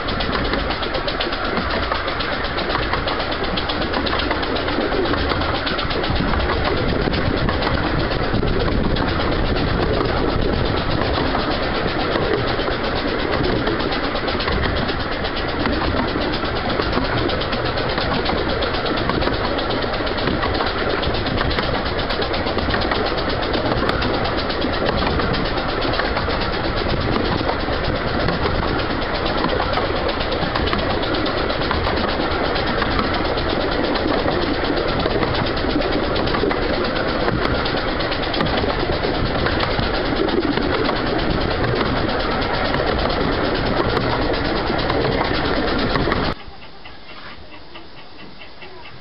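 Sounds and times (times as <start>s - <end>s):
steam locomotive working: 0.0s - 49.0s
train wheels on rails: 0.0s - 49.0s.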